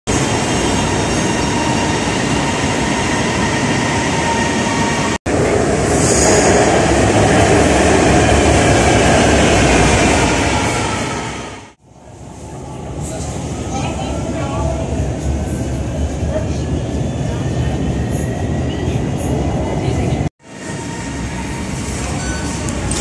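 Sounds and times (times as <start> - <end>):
metro train running on rails: 0.1 - 23.0.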